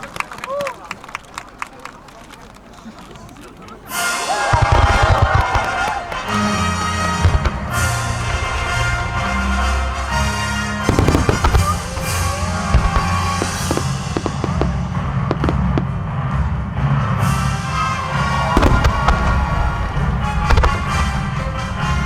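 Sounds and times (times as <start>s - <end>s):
firework shells bursting: 3.9s - 22.0s
music playing: 3.9s - 22.0s.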